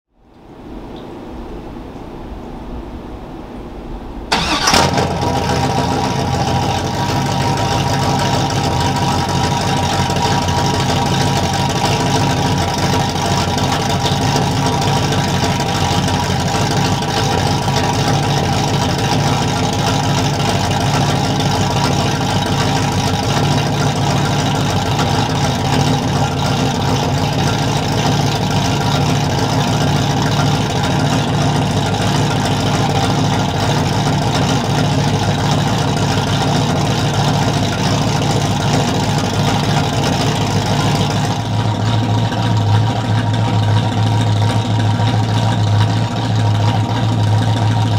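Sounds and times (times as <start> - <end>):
pickup engine idling: 4.3 - 47.9.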